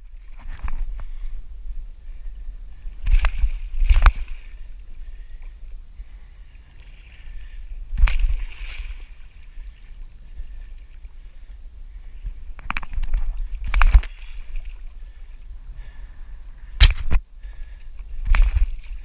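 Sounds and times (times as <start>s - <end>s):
wind rumble on microphone: 0.0s - 19.0s
kayak paddle splashing: 2.0s - 16.0s, 16.8s - 19.0s.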